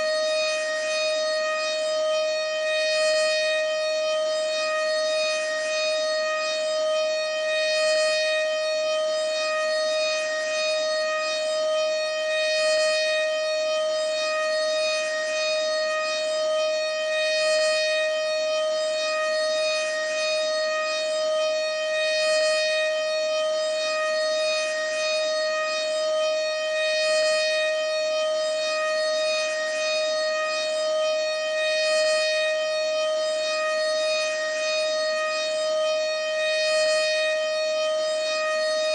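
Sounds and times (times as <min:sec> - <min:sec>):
outdoor warning siren steady tone: 0:00.0 - 0:38.9.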